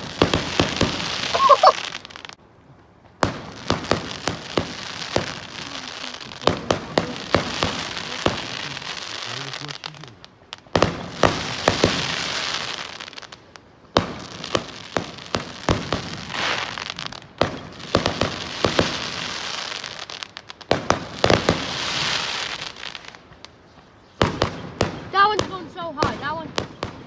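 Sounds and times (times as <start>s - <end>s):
fireworks bangs and pops: 0.0s - 27.0s
fireworks crackling hiss: 0.0s - 27.0s.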